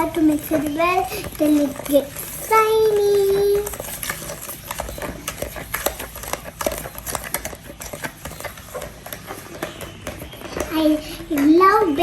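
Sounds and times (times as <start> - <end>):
utensil stirring in mixing bowl: 0.0 - 12.0.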